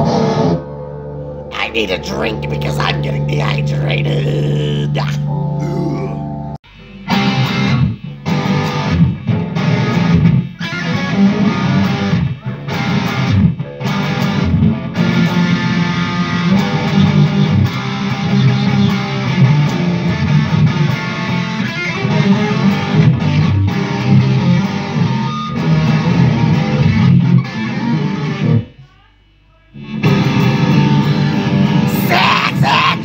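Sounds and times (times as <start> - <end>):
electric guitar music: 0.0 - 28.8, 29.8 - 33.0.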